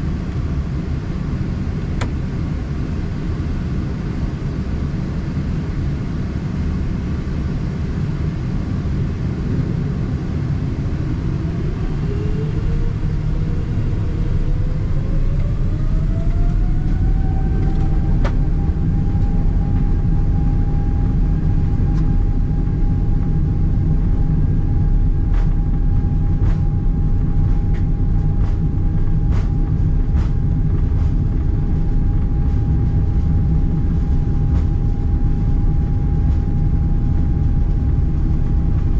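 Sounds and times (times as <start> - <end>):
aircraft cabin low rumble: 0.0 - 38.9
jet engine whine: 0.0 - 38.9.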